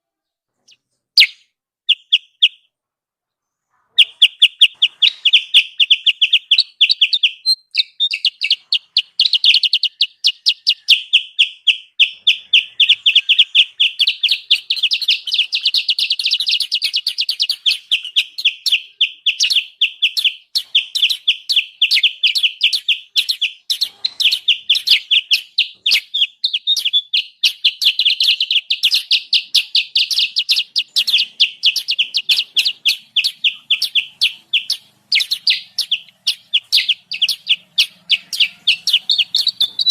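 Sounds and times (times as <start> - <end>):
short high bird chirps: 0.6 - 2.7, 3.9 - 39.9.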